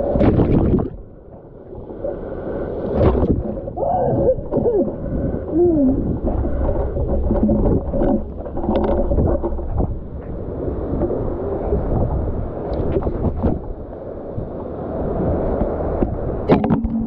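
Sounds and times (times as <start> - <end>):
shallow surf and water sloshing: 0.0 - 17.0
wind rumble on microphone: 0.0 - 17.0.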